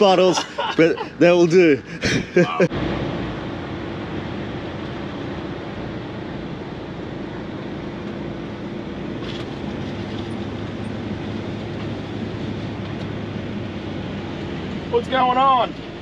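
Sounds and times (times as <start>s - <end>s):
engine and road noise hum: 0.0s - 16.0s.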